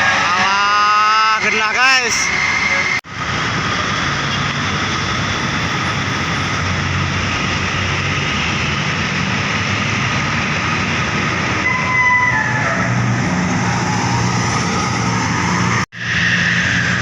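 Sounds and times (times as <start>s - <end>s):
busy road traffic: 0.0s - 17.0s
large vehicles passing close: 1.4s - 17.0s.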